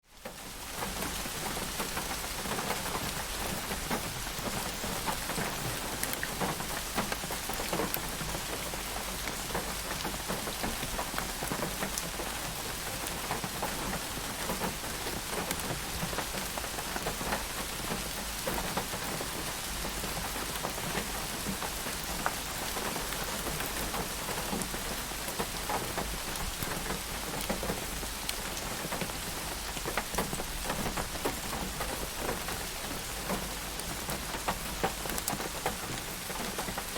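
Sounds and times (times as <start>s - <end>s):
rain on hard surface: 0.0s - 36.9s.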